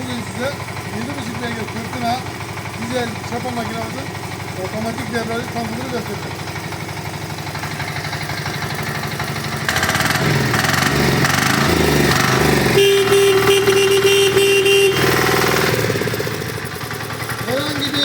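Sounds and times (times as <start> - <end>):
diesel tiller engine running: 0.0 - 18.0.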